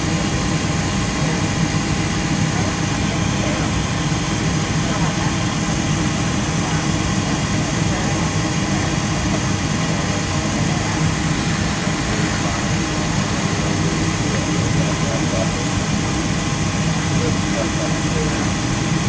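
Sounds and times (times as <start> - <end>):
airplane cabin air hum: 0.0 - 19.0
faint steady whine: 0.0 - 19.0.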